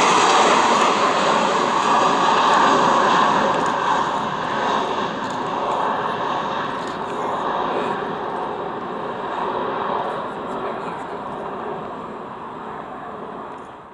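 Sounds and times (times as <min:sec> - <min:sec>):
jet engines rumbling: 0:00.0 - 0:13.9.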